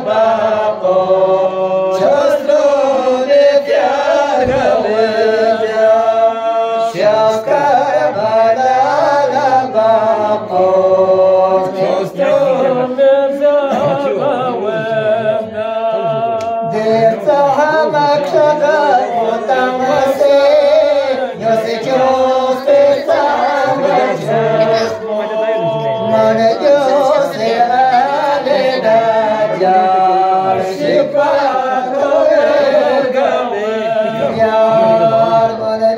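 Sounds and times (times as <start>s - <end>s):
men chanting: 0.0s - 35.9s.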